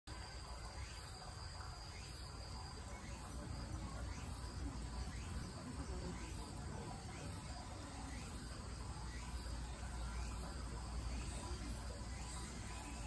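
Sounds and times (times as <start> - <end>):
faint insect chirping: 0.1 - 13.0.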